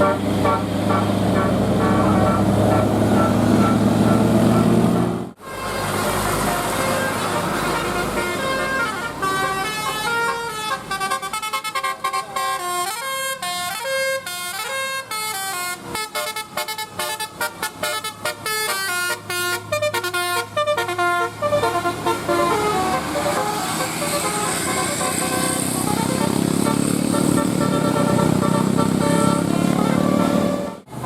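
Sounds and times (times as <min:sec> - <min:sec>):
bus engine running: 0:00.0 - 0:31.0
bus multi-tone horn melody: 0:00.0 - 0:31.0
road noise: 0:00.0 - 0:31.0.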